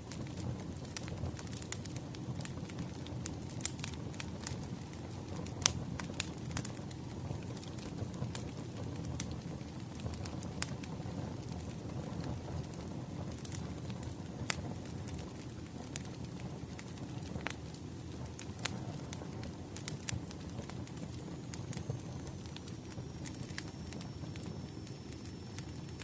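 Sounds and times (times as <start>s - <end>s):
firewood crackling and popping: 0.0s - 26.0s
fire low rush: 0.1s - 26.0s.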